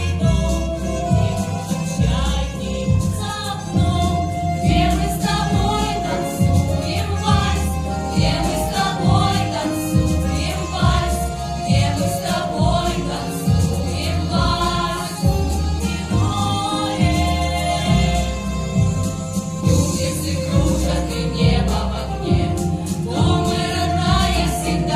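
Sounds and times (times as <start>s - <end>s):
vocal ensemble singing: 0.0s - 24.9s.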